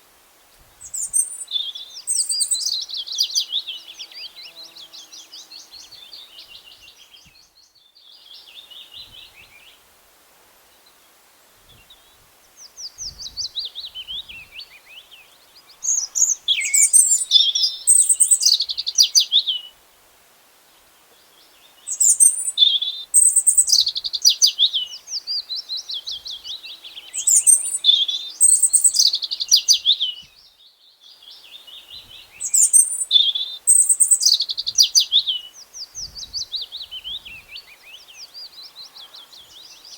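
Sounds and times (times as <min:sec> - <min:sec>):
songbirds chirping and trilling: 0:00.6 - 0:09.8, 0:10.8 - 0:19.8, 0:20.8 - 0:39.9.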